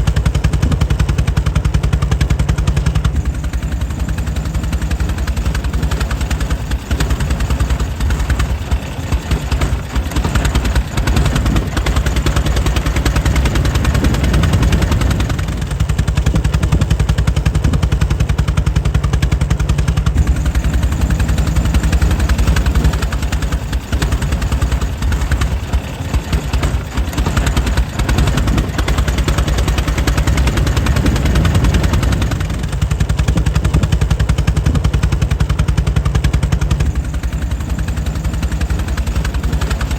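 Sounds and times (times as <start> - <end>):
air-cooled engine running: 0.0 - 39.9.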